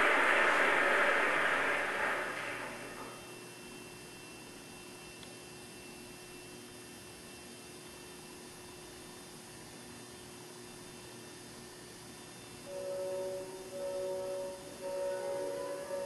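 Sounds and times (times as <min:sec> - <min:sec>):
faint high whine: 0:00.0 - 0:16.0
hiss and electrical hum: 0:00.0 - 0:16.0.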